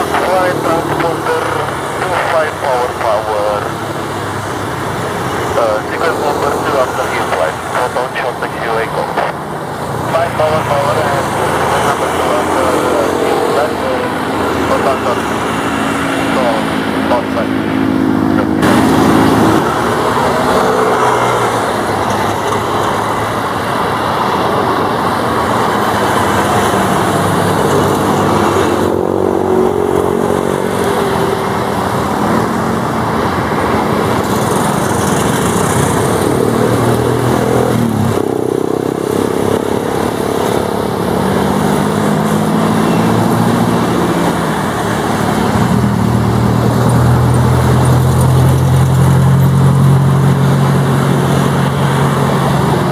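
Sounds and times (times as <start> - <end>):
turboprop engines humming: 0.0 - 52.9.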